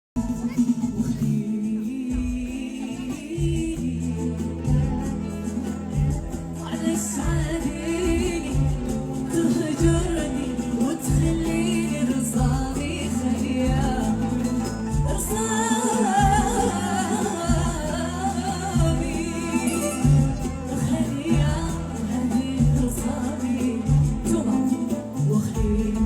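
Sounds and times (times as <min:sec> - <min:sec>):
band accompaniment: 0:00.2 - 0:26.0
woman singing: 0:00.2 - 0:26.0.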